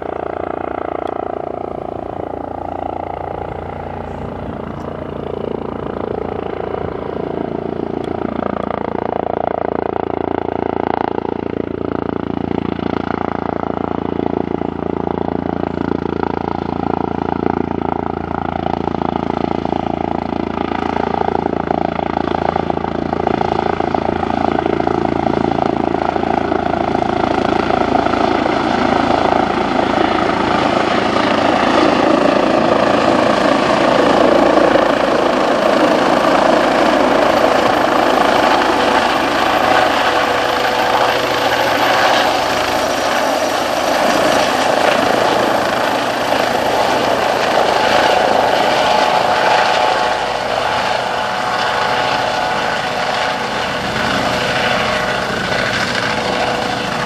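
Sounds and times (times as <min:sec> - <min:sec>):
helicopter rotor beat and whine: 0:00.0 - 0:57.0.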